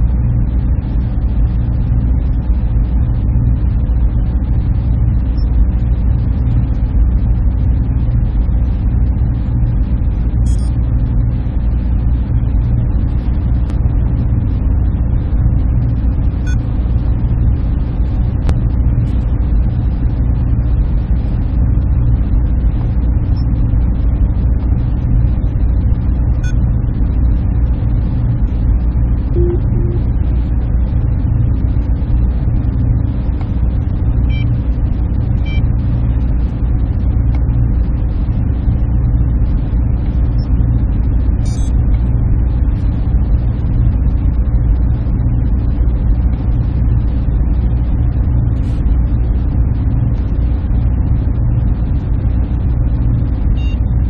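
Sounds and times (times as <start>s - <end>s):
machinery hum and rumble: 0.0s - 54.0s.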